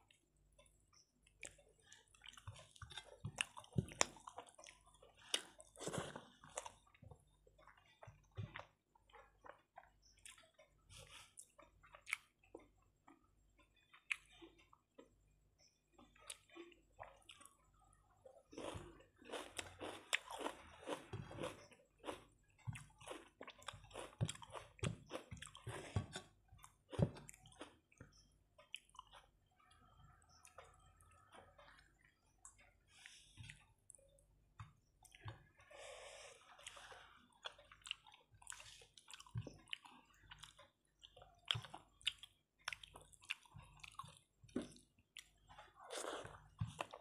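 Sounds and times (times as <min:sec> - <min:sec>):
person chewing wetly: 0:00.0 - 0:47.0.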